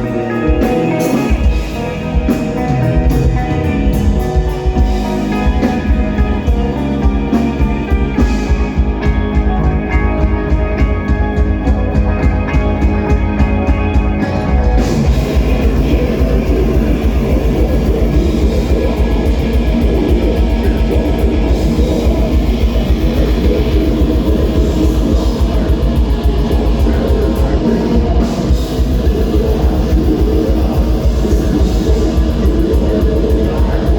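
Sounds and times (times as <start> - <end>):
metal band playing live: 0.0 - 33.9.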